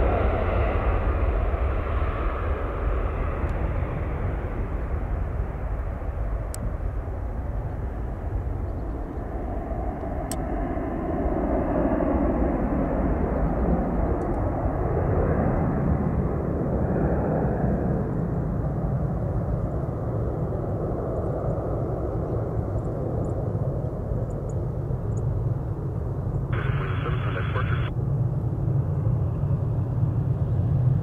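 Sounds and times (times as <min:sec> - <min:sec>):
airplane engine rumble: 0:00.0 - 0:31.0.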